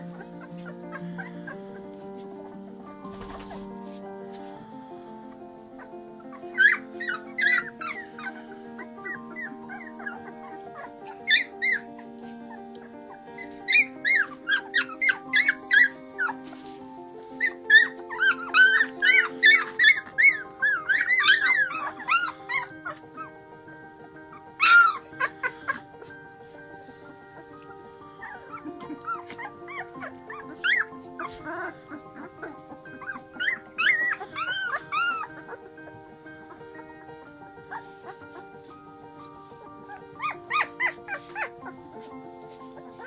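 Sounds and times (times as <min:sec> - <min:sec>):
dog whining and yipping: 0:00.0 - 0:03.7, 0:05.8 - 0:16.7, 0:17.3 - 0:23.4, 0:24.0 - 0:26.2, 0:26.9 - 0:43.0
background music: 0:00.0 - 0:43.0.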